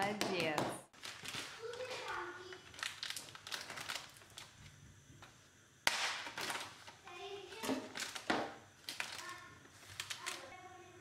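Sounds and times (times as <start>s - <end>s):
plastic film rustling and crinkling: 0.9s - 4.8s, 5.9s - 11.0s.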